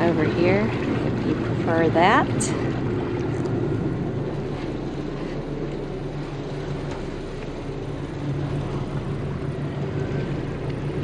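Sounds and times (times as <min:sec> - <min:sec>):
boat diesel engines droning: 0:00.0 - 0:11.0.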